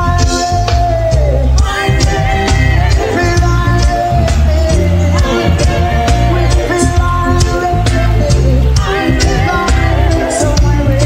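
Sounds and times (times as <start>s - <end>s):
heavy bass line: 0.0s - 11.0s
reggae band playing: 0.0s - 11.0s
steady drum beat: 0.0s - 11.0s.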